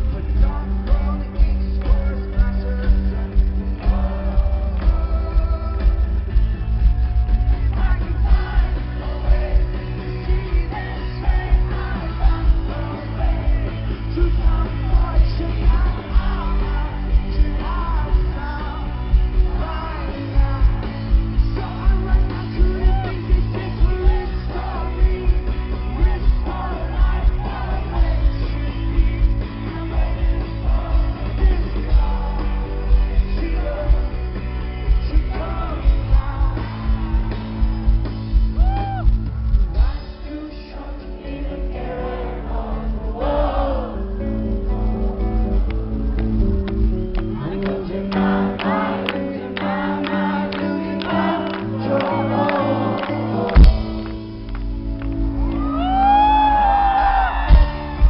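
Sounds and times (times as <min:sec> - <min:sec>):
loud drums: 0:00.0 - 0:40.8, 0:49.6 - 0:58.0
lead vocal singing: 0:00.0 - 0:54.5, 0:55.4 - 0:58.0
bass: 0:00.0 - 0:58.0.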